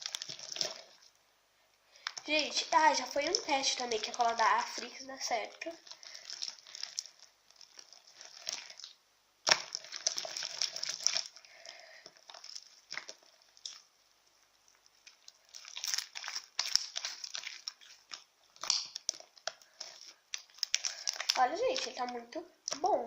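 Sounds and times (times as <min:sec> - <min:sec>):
slime crackling and clicking: 0:02.0 - 0:11.4, 0:12.1 - 0:13.8, 0:15.0 - 0:22.9.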